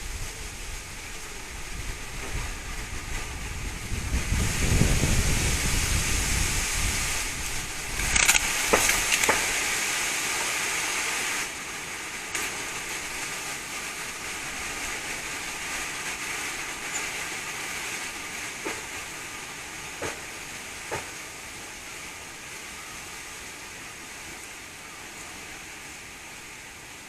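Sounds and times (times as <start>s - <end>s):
wind blowing: 0.0s - 27.0s.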